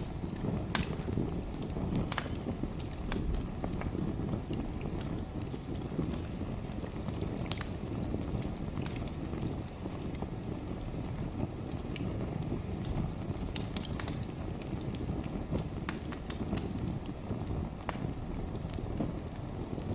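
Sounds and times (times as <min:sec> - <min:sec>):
logs crackling and popping: 0:00.0 - 0:19.9
low rumble of flames: 0:00.0 - 0:19.9.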